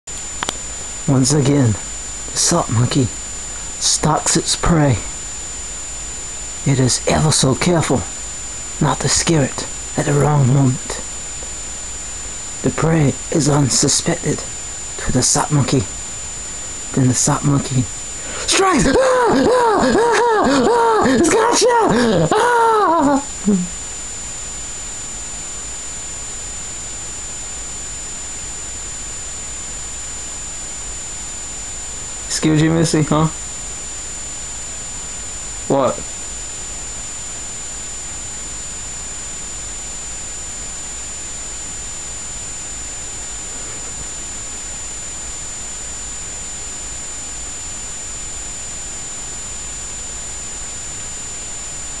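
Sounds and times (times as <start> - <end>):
high constant whine: 0.0 - 52.0.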